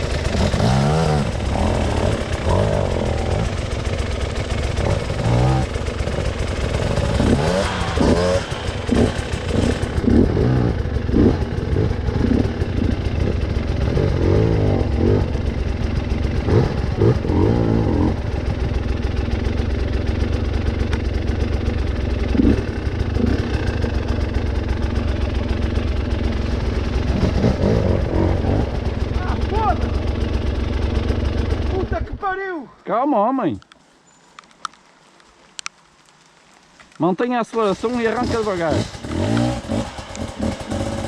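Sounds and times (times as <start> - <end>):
motorcycle engine revving: 0.0 - 32.4, 37.5 - 41.0.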